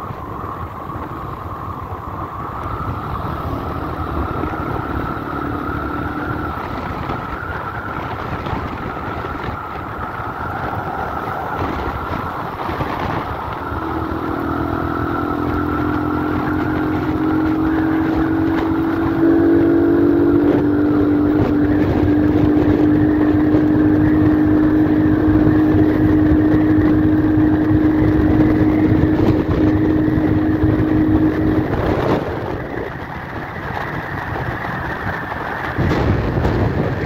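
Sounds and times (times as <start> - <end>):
wind noise: 0.0 - 37.0
motorcycle engine running: 2.6 - 37.0.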